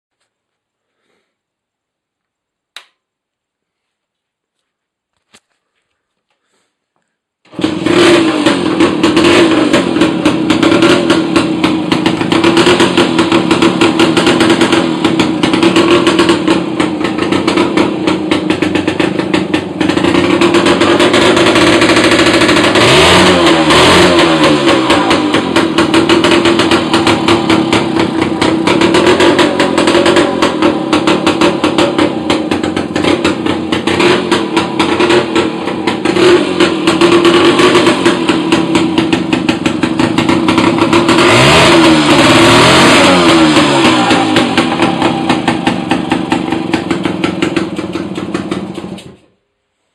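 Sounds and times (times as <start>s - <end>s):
motorcycle engine running loud: 7.5s - 49.3s.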